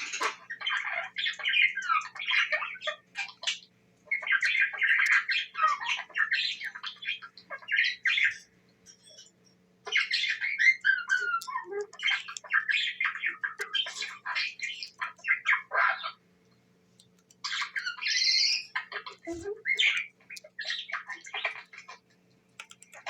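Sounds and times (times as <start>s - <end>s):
budgerigar warbling and chattering: 0.0s - 9.3s, 9.9s - 16.2s, 17.1s - 23.0s.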